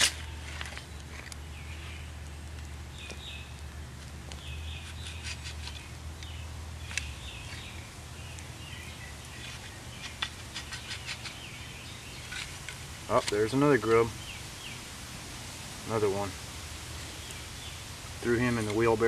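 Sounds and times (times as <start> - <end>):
birds chirping: 0.0 - 3.7, 4.3 - 15.0, 15.8 - 19.0.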